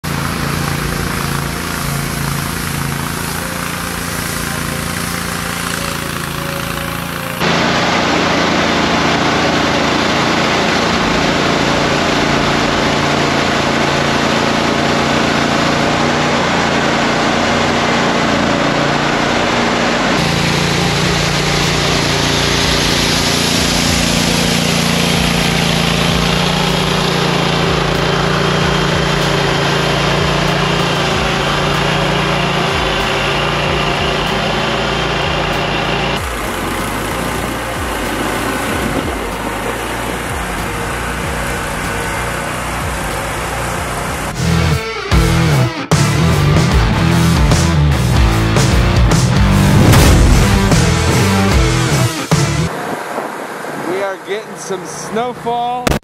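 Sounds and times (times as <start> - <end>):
power broom sweeping snow: 0.0 - 55.8
engine hum: 0.0 - 56.0.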